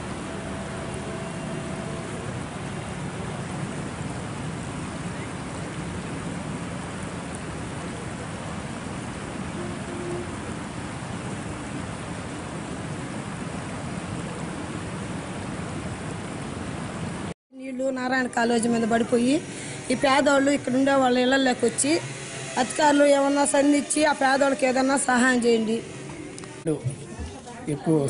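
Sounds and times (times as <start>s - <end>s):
floodwater rushing: 0.0s - 17.4s, 18.5s - 26.7s.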